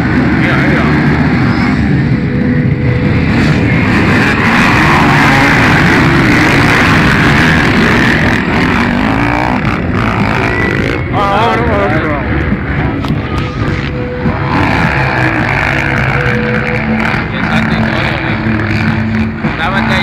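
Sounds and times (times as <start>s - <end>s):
motocross bikes revving past: 0.0s - 20.0s.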